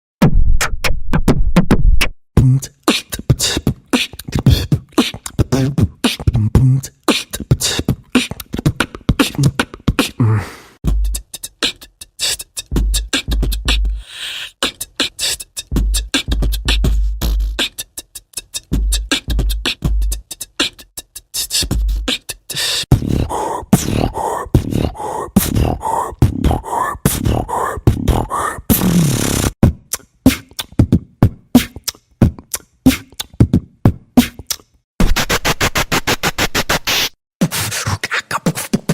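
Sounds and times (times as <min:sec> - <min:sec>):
person beatboxing: 0:02.4 - 0:38.9.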